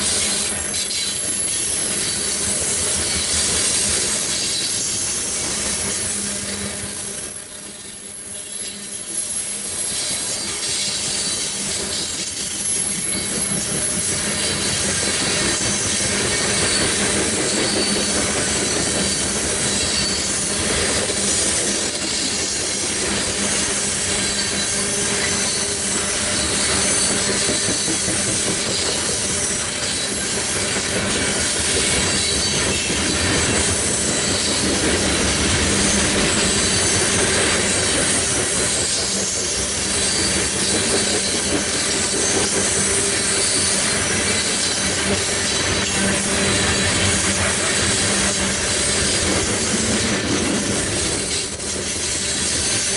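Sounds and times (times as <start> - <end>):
freight train cars rolling past: 0.0 - 52.9
high wheel squeal: 0.0 - 52.9.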